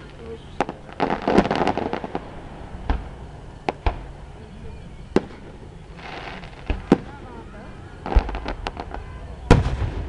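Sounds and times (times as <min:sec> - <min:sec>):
fireworks sharp bangs: 0:00.0 - 0:04.4, 0:05.0 - 0:10.0.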